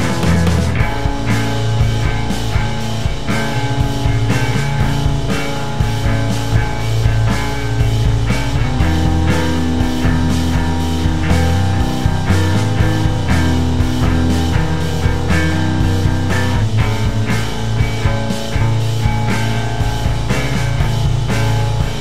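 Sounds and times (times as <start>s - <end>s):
bass guitar: 0.0s - 22.0s
drum kit: 0.0s - 22.0s
electric guitars: 0.0s - 22.0s.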